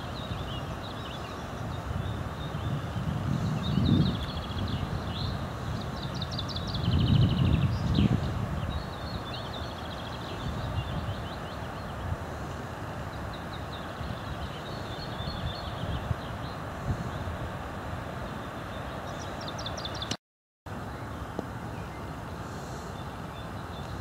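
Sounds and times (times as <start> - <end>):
wind rumble on microphone: 0.0 - 20.1
songbirds trilling and chirping: 0.0 - 24.0.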